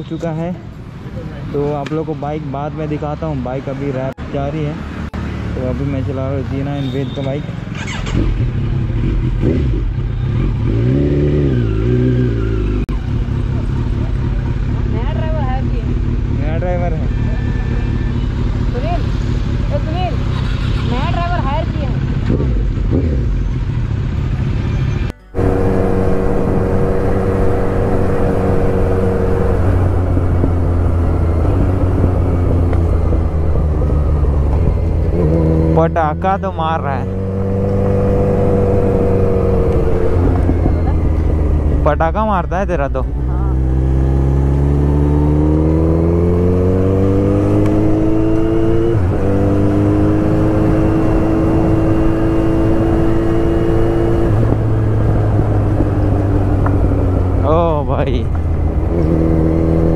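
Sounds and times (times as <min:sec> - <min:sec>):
wind and road noise: 0:00.0 - 0:59.9
motorcycle engine cruising: 0:01.1 - 0:59.9.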